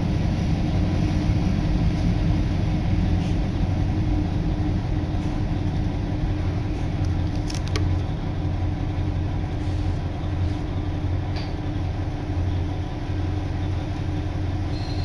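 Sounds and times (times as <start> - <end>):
railcar engine hum: 0.0 - 15.0.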